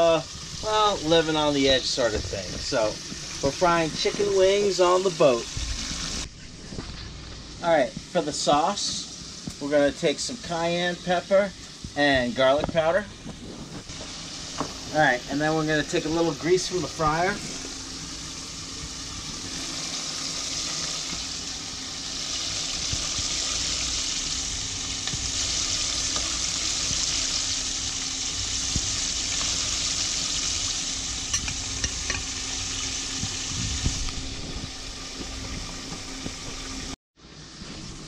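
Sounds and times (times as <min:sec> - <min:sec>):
chicken frying in hot oil: 0:00.0 - 0:38.0.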